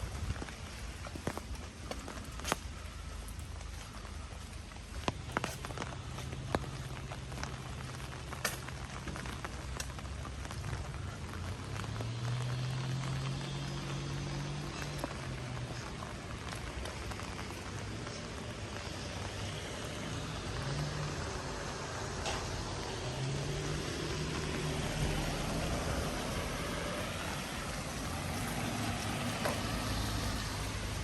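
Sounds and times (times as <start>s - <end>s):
low engine hum: 0.0s - 31.0s
rain falling on a street: 0.0s - 31.0s.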